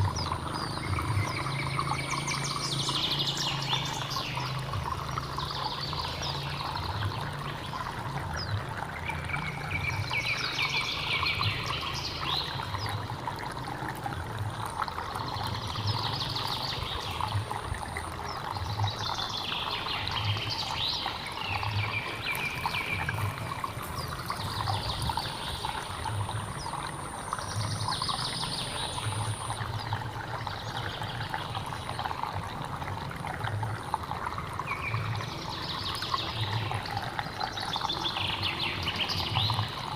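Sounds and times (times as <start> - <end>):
bird singing: 0.0 - 13.0, 15.2 - 32.2, 34.6 - 39.9
stream trickling and gurgling: 0.0 - 39.9.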